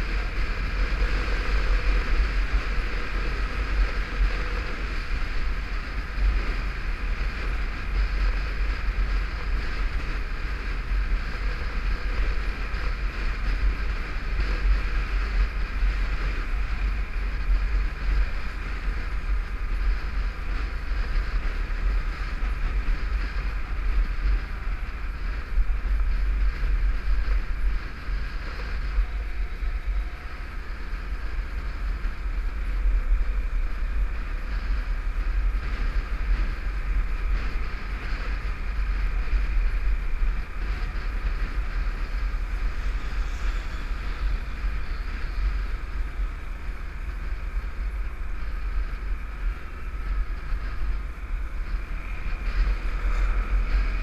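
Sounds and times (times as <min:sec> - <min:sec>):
motorcycle engine running: 0:00.0 - 0:54.0
wind rumble on microphone: 0:00.0 - 0:54.0.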